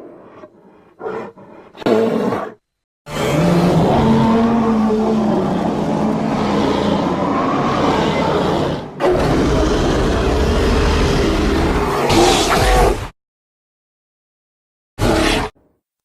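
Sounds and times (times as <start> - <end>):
processed bear growls: 0.0 - 13.1.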